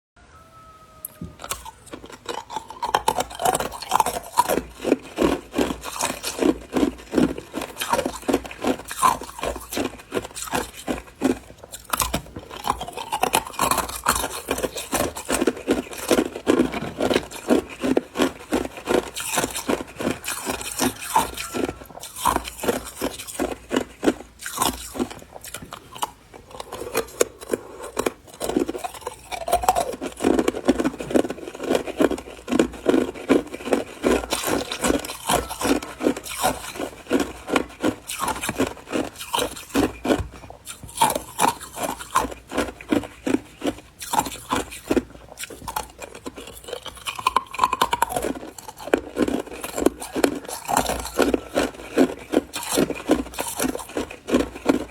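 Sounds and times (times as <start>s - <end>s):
ice cubes crunching in mouth: 1.1s - 54.9s.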